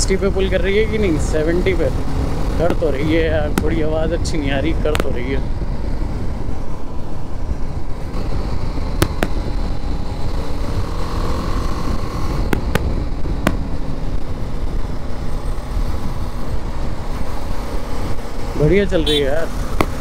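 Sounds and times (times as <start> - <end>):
wind rush: 0.0 - 18.9
motorcycle engine running: 0.0 - 20.0.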